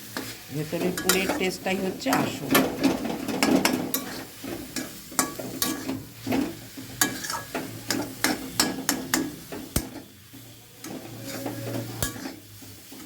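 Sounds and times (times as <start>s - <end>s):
faint sizzle: 0.0s - 13.0s
spatula scraping and knocking pan: 0.1s - 13.0s.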